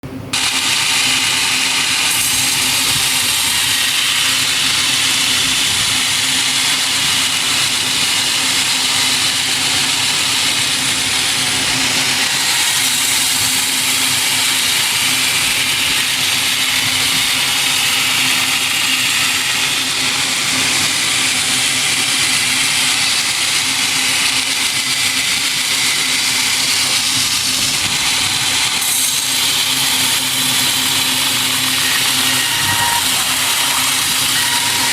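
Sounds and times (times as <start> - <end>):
sawmill machinery running: 0.0 - 34.9
loud high hissing noise: 0.1 - 34.9.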